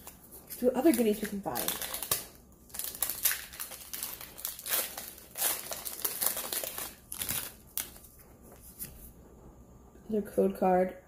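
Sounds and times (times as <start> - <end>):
foil wrapper crinkling: 0.0 - 8.9.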